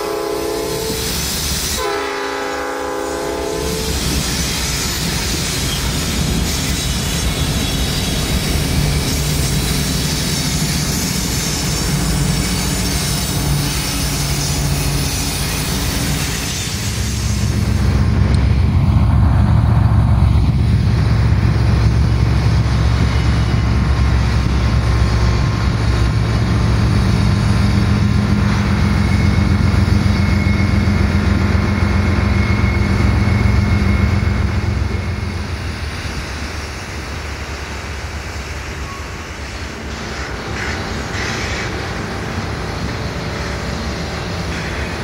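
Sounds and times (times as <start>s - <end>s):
diesel locomotive engine rumble: 0.0s - 45.0s
rail cars rolling past: 0.0s - 45.0s.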